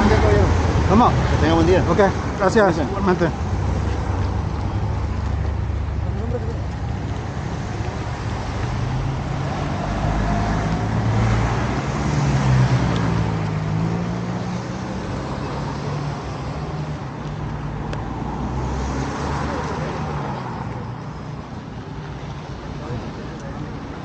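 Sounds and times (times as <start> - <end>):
engine hum: 0.0 - 24.0
passing vehicle engine: 0.0 - 24.0.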